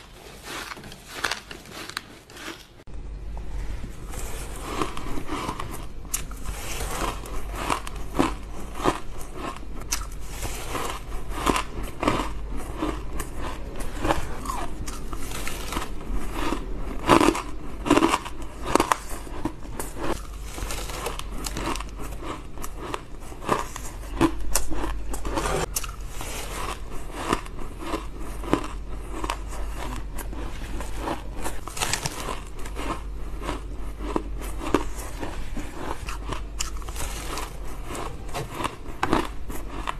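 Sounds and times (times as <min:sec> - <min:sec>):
crunching and chewing ice: 0:00.0 - 0:02.9, 0:03.6 - 0:39.9.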